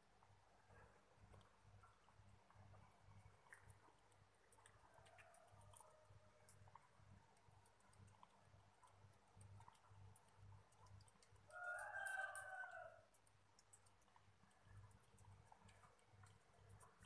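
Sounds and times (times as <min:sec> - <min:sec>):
cat lapping milk: 0:00.0 - 0:17.0.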